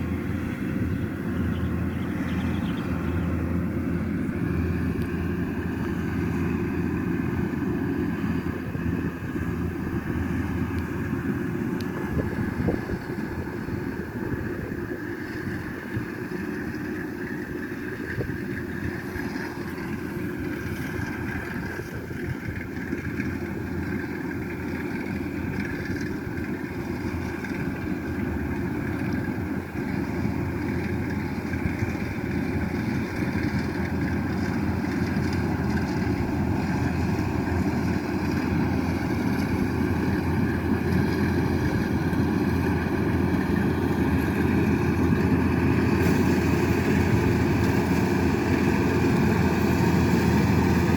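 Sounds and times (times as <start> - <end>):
combine harvester diesel engine: 0.0 - 50.9.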